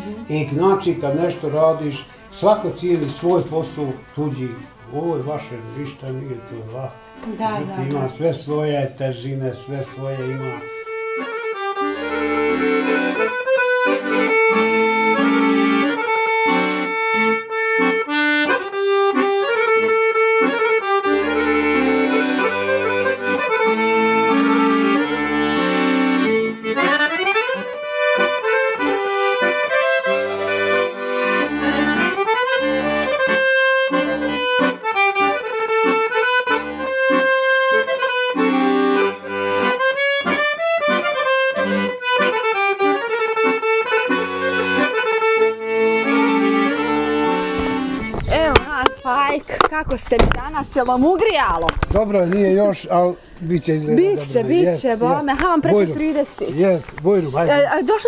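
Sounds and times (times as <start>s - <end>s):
accordion folk music: 0.0s - 58.0s.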